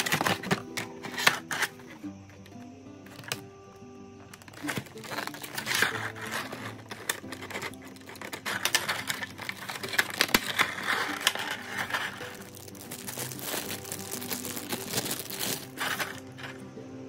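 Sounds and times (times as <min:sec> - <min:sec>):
plastic crackling and clicking: 0:00.0 - 0:03.5, 0:04.2 - 0:16.6
background music: 0:00.0 - 0:17.0.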